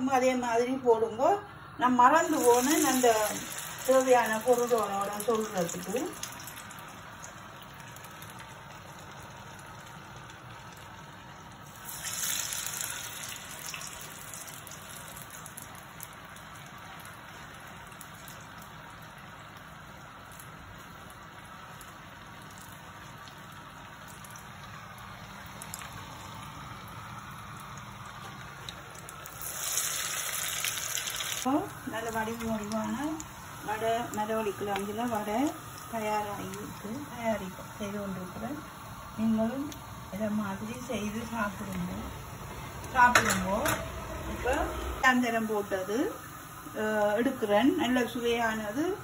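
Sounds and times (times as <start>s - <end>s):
deep-frying sizzle in oil: 0.0s - 49.0s.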